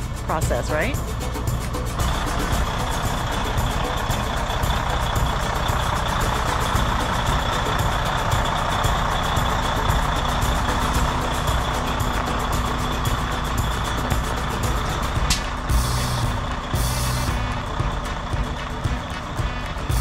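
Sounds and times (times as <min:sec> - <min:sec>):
truck diesel engine rumbling: 0:00.0 - 0:20.0
tires on gravel: 0:00.1 - 0:20.0.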